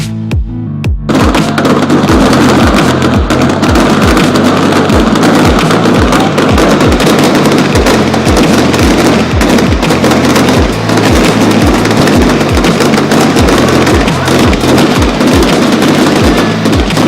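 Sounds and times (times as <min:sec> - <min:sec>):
electronic dance music: 0:00.0 - 0:17.0
held bass line: 0:00.0 - 0:17.0
fast kick drum: 0:00.3 - 0:17.0.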